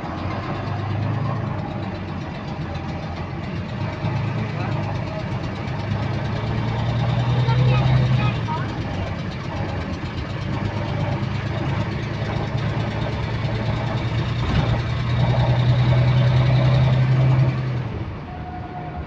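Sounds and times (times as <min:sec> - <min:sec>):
repetitive engine clicking: 0:00.0 - 0:18.3
bus diesel engine droning: 0:00.0 - 0:19.0.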